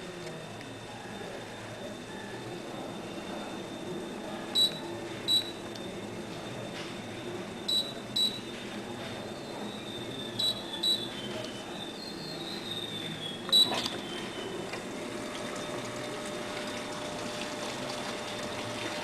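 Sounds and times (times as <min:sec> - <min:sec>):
washing machine beeps: 0:00.0 - 0:19.0
washing machine running: 0:00.0 - 0:19.0.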